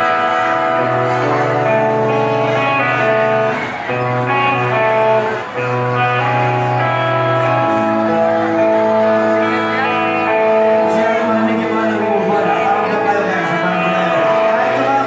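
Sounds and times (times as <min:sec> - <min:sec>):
electric guitar: 0:00.0 - 0:15.0
live band playing: 0:00.0 - 0:15.0.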